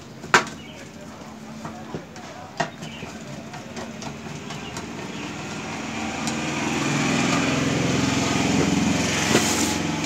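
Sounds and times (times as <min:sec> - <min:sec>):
small engine humming: 0:00.6 - 0:10.0.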